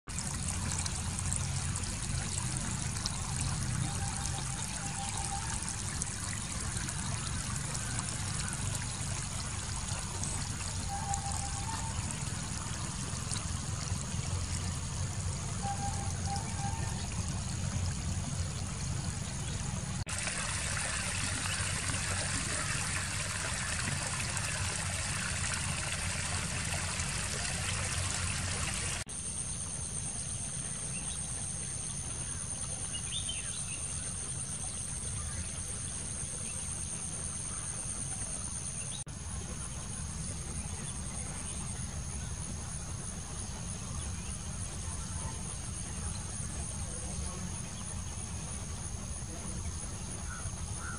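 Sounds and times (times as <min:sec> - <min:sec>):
water trickling through channels: 0:00.1 - 0:50.9
high insect drone: 0:03.6 - 0:50.9.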